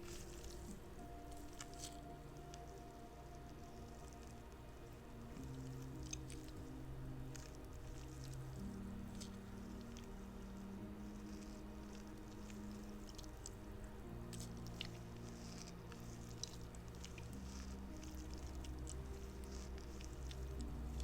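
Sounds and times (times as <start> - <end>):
quiet background music: 0.0 - 21.0
squishy toy squelchy crackles: 0.0 - 21.0.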